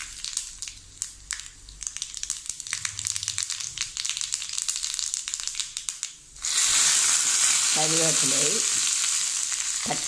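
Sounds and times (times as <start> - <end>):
mustard seeds popping in oil: 0.0 - 10.0
oil frying sizzle: 0.0 - 10.0.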